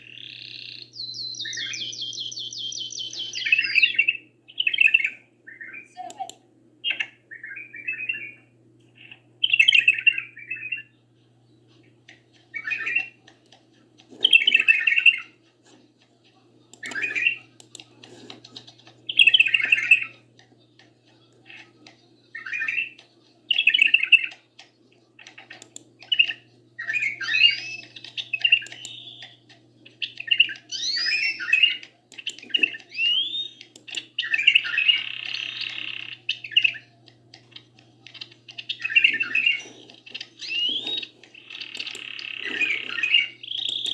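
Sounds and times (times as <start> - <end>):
caged songbirds singing: 0.0 - 43.9
faint low hum: 0.0 - 43.9.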